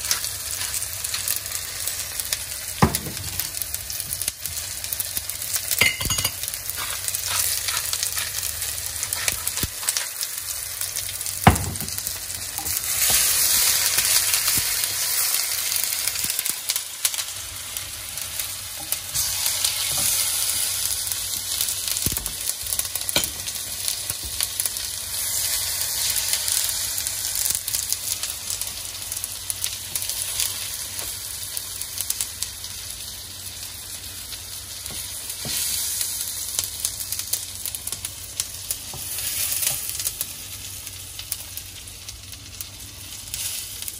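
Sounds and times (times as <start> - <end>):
food frying in a pan: 0.0 - 43.9.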